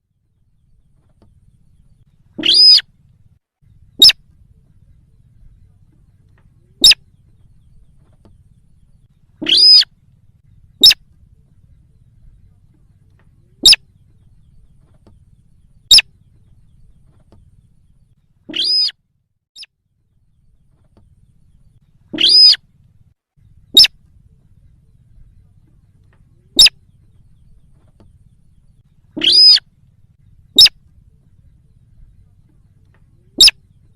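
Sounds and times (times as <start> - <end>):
faint low hum: 0.0 - 33.9
bird calls: 0.4 - 19.0, 19.6 - 33.9.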